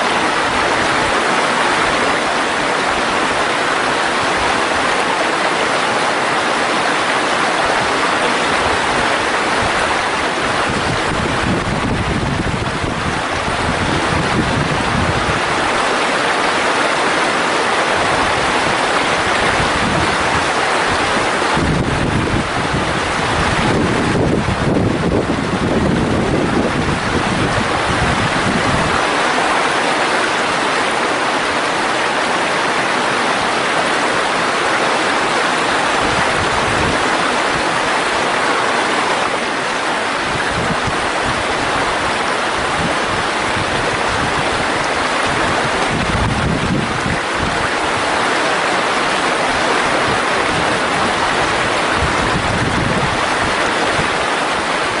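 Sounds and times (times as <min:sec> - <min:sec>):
stream rushing over rocks: 0:00.0 - 0:55.0
wind buffeting microphone: 0:06.3 - 0:16.4, 0:17.2 - 0:30.8, 0:33.4 - 0:55.0.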